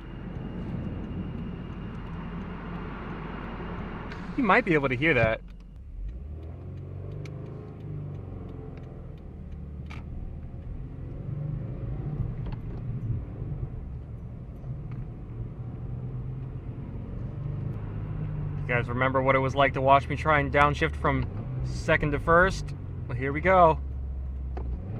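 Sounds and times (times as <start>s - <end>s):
car engine running while driving: 0.0s - 24.9s.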